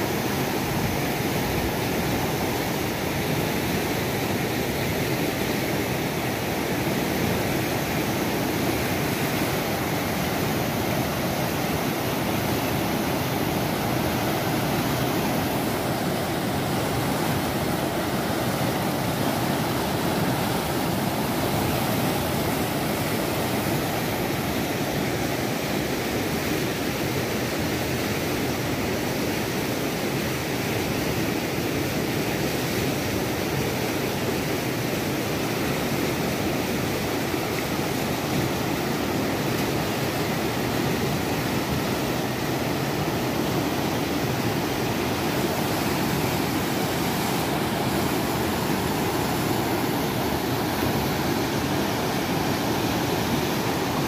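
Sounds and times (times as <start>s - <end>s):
flooded river rushing: 0.0s - 54.0s.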